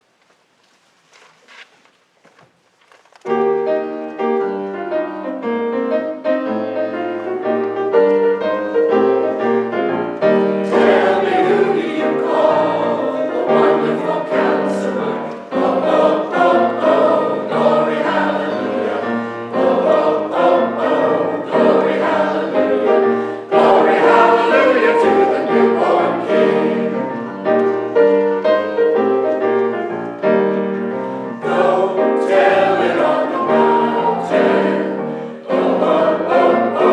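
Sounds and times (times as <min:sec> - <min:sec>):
instrumental accompaniment: 0:03.2 - 0:36.9
choir singing gospel: 0:03.4 - 0:36.9.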